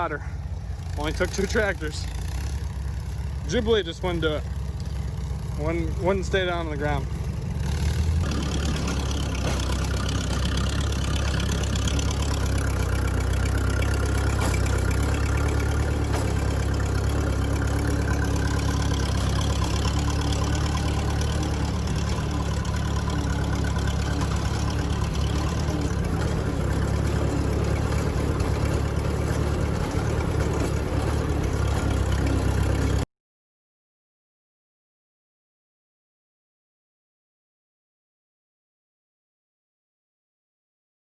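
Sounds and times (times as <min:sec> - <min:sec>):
tractor engine running: 0:00.0 - 0:33.1.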